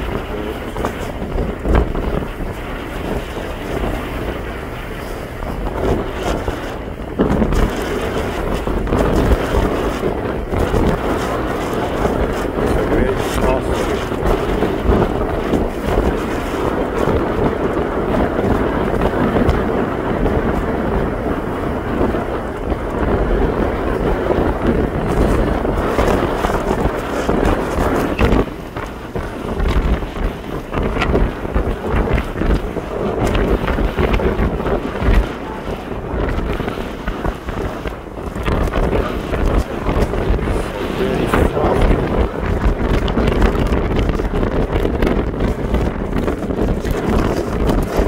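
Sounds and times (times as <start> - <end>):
ship engine rumble: 0.0 - 48.0
wind buffeting microphone: 0.0 - 48.0.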